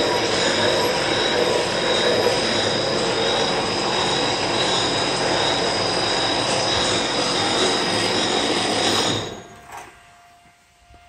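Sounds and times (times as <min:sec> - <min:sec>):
lathe running: 0:00.0 - 0:09.9
high-pitched whine: 0:00.0 - 0:11.0.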